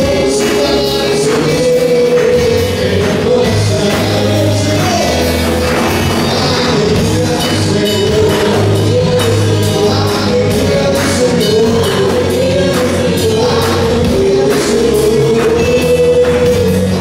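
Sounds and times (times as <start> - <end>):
group of singers singing: 0.0 - 17.0
steady drum beat: 0.0 - 17.0
worship band playing: 0.0 - 17.0.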